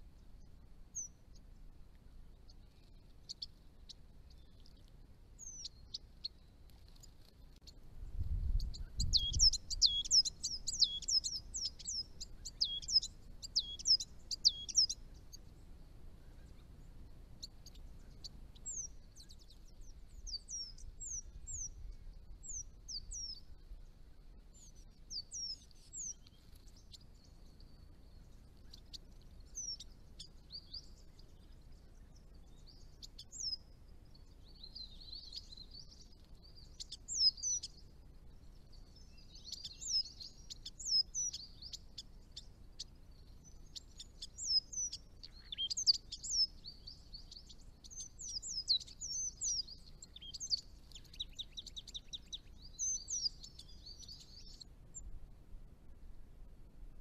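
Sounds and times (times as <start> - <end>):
small birds chirping: 0.0 - 56.1.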